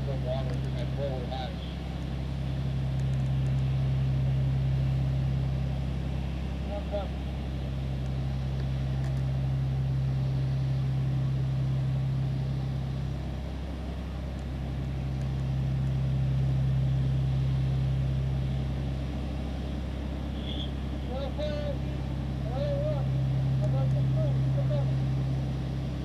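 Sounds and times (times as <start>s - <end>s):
large engine droning: 0.0s - 26.0s.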